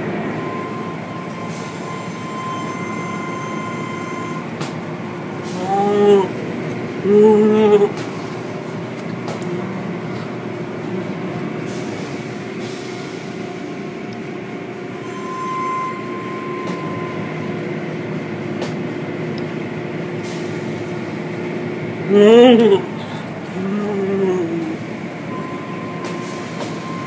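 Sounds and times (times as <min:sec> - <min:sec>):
car wash machinery humming: 0:00.0 - 0:27.0.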